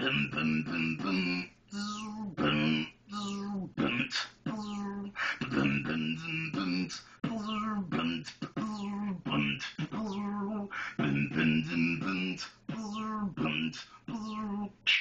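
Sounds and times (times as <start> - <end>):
man beatboxing: 0.0 - 15.0.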